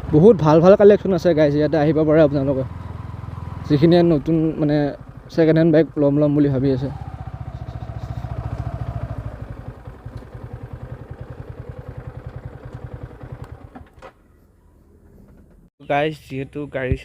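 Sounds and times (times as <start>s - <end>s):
motorcycle engine idling: 0.0s - 15.7s.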